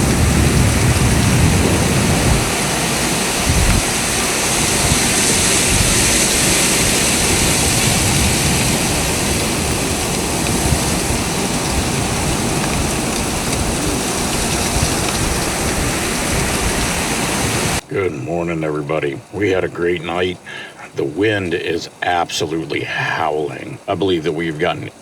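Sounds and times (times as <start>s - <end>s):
blizzard wind gusting: 0.0s - 25.0s.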